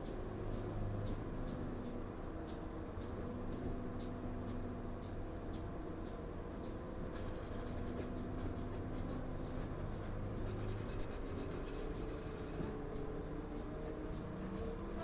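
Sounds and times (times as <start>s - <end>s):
light regular ticking: 0.0s - 15.0s
train engine drone: 0.0s - 15.0s.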